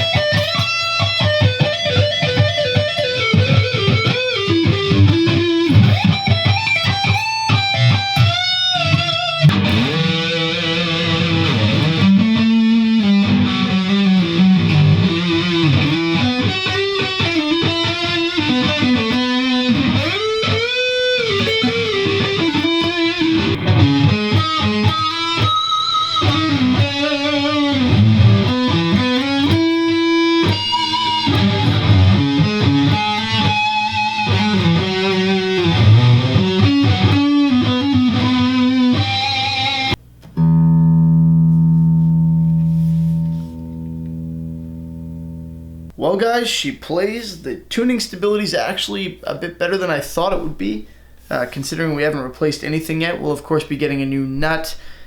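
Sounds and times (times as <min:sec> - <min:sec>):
amplified electric guitar: 0:00.0 - 0:46.0.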